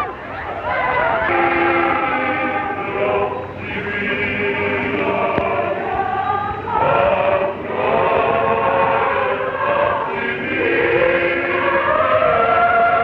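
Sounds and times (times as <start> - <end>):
mixed choir singing: 0.0 - 13.0.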